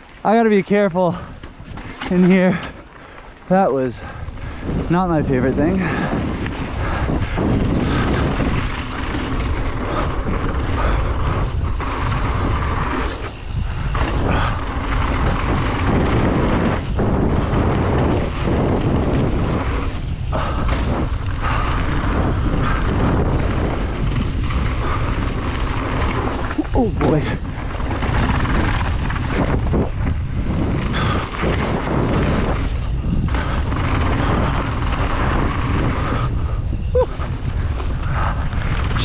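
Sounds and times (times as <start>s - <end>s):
bike knocking and rattling: 0.0s - 39.0s
wind and tyre noise: 0.0s - 39.0s.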